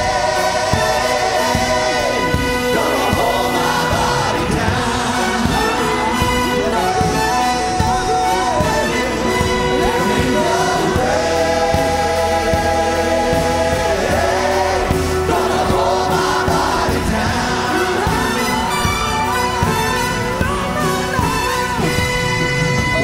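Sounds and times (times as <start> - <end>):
man singing into a microphone: 0.0 - 19.5
band playing: 0.0 - 23.0
choir singing: 0.0 - 23.0.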